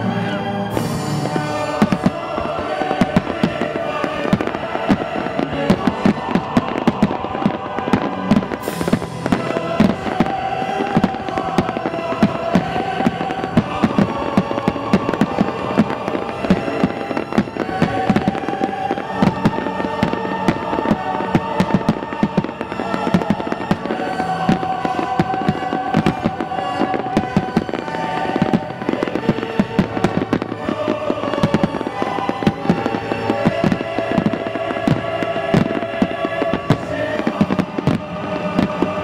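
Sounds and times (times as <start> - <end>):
fireworks bursting and cracking: 0.0 - 39.0
music with long held notes: 0.0 - 39.0.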